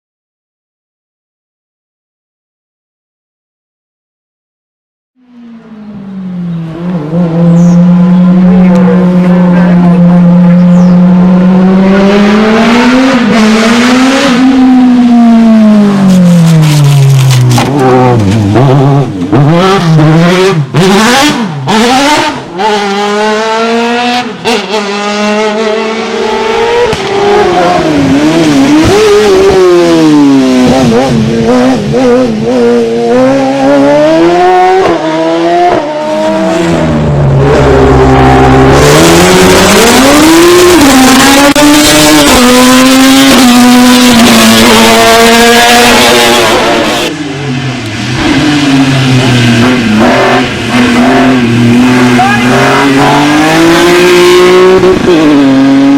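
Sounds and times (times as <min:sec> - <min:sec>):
race car engine revving: 0:05.5 - 0:55.9.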